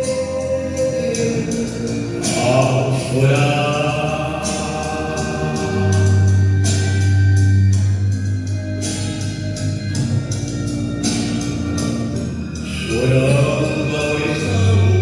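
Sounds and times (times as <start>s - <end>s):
electronic keyboard music: 0.0s - 15.0s.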